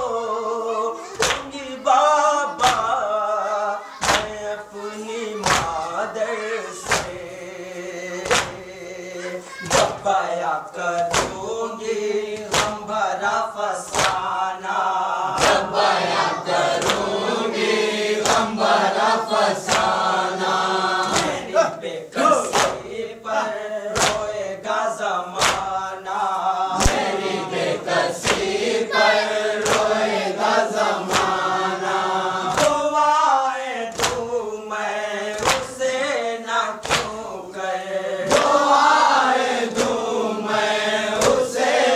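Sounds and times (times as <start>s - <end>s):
group chanting a lament: 0.0s - 41.9s
rhythmic chest-beating slaps: 0.0s - 41.9s.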